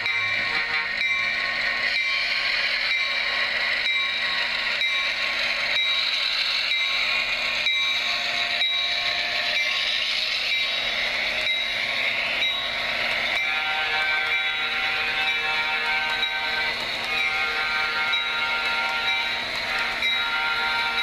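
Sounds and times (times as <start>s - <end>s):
model train diesel engine sound: 0.0s - 21.0s.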